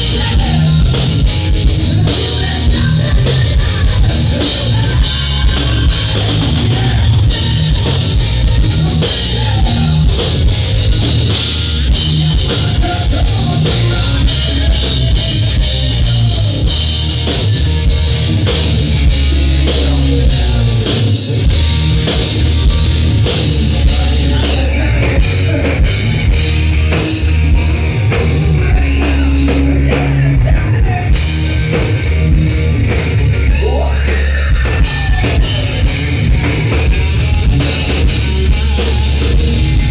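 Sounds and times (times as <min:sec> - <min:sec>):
bass guitar: 0:00.0 - 0:39.9
electric guitar: 0:00.0 - 0:39.9
pounding drum kit: 0:00.0 - 0:39.9.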